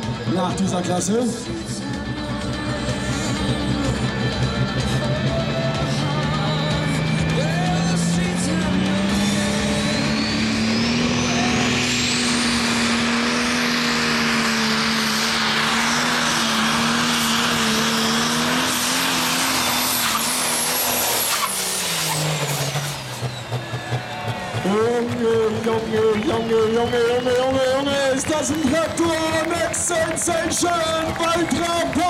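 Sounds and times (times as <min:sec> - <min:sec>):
diesel engine drone: 0:00.0 - 0:32.0
turbo whine: 0:00.0 - 0:32.0.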